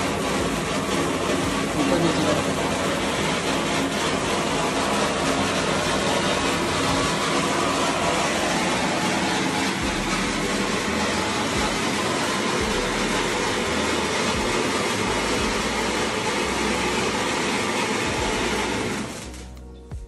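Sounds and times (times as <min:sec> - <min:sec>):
spark fountain hissing: 0:00.0 - 0:19.6.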